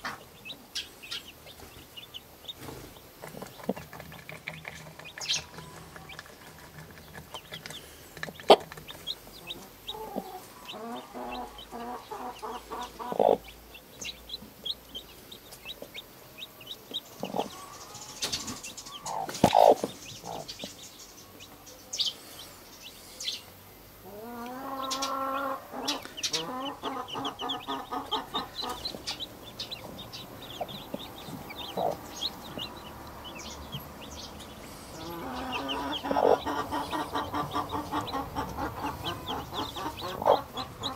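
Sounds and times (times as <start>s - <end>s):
hen clucking: 0.0s - 20.9s, 24.0s - 40.9s
chicks peeping: 0.0s - 40.9s.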